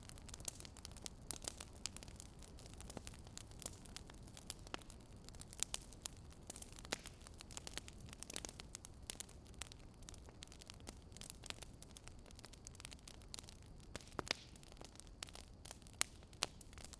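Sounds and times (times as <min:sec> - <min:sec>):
low steady hiss: 0:00.0 - 0:16.9
wood fire crackling: 0:00.0 - 0:16.9.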